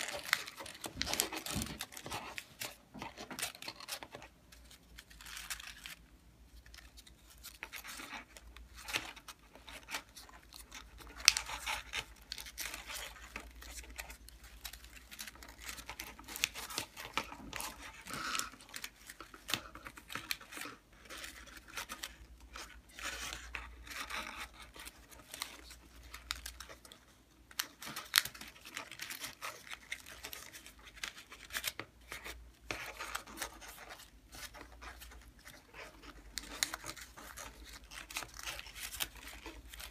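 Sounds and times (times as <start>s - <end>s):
paper rustling and crinkling: 0.0s - 39.9s
sharp paper crackles: 0.0s - 39.9s.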